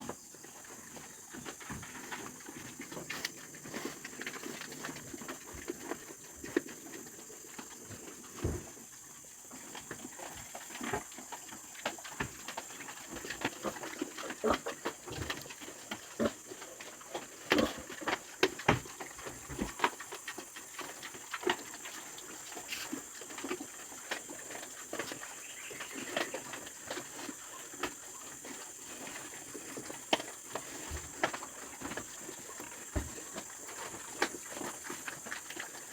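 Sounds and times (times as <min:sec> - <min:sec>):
pigs knocking and clattering: 0:00.0 - 0:35.9
pigs snuffling: 0:00.0 - 0:35.9.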